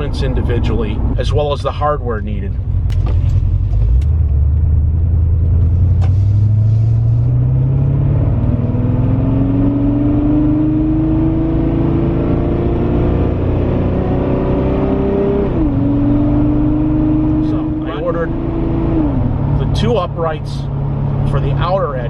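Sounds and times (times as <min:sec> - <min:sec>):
car engine accelerating: 0:02.5 - 0:22.0.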